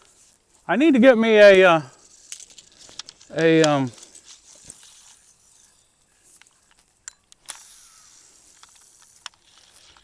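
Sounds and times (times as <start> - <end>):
soft rustle: 0.0 - 10.0.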